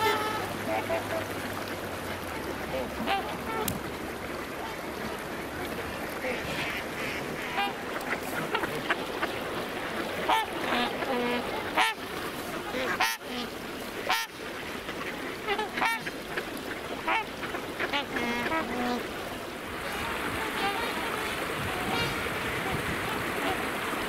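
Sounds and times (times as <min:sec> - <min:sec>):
waterfowl calling: 0:00.0 - 0:19.2, 0:19.8 - 0:24.0.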